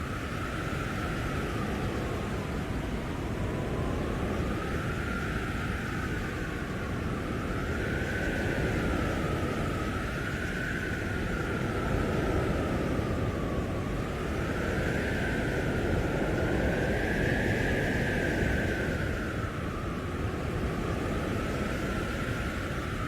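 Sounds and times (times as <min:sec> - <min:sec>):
howling blizzard wind: 0:00.0 - 0:23.0.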